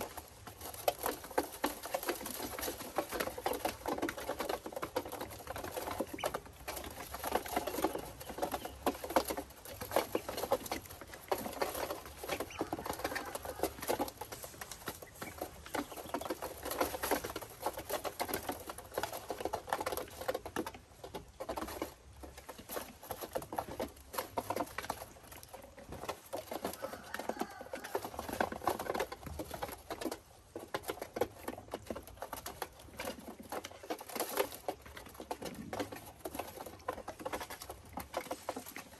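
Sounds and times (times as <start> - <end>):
ducklings pattering about: 0.0 - 38.9.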